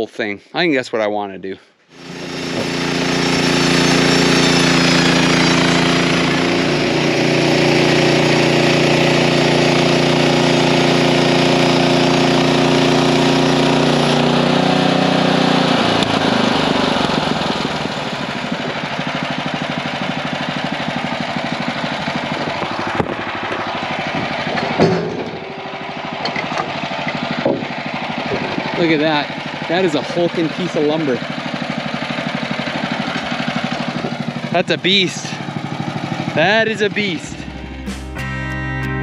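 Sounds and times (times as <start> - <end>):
sawmill engine running under load: 1.9 - 37.9.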